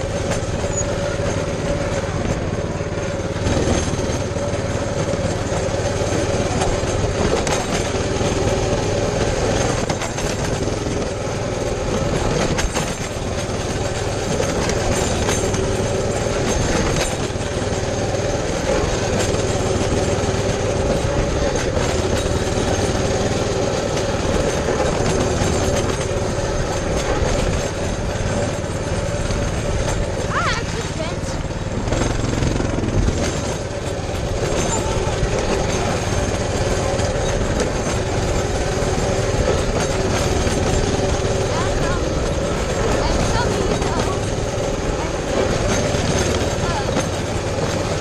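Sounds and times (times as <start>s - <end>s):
bike knocking and rattling: 0.0s - 48.0s
motorbike engine running: 0.0s - 48.0s.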